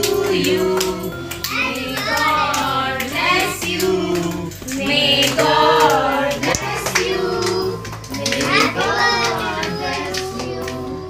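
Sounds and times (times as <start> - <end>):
hands clapping: 0.0 - 11.0
music: 0.0 - 11.0
people singing birthday song: 0.0 - 11.0.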